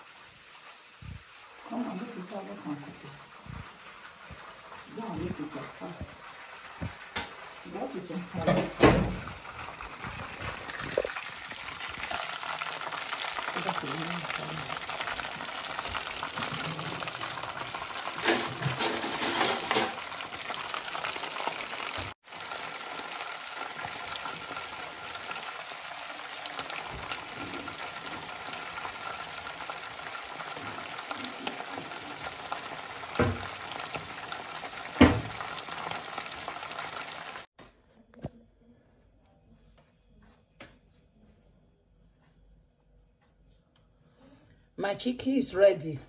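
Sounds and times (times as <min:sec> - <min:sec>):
chicken sizzling in hot oil: 0:00.0 - 0:37.5.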